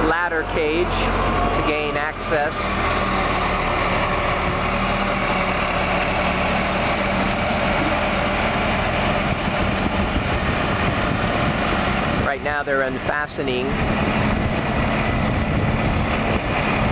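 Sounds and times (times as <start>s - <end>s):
heavy vehicle engine idling: 0.0s - 16.9s.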